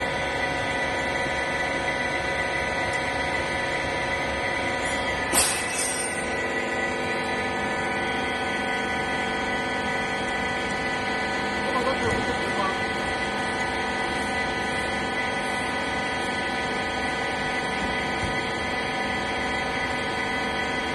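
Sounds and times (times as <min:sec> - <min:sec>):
baler machine humming: 0:00.0 - 0:20.9.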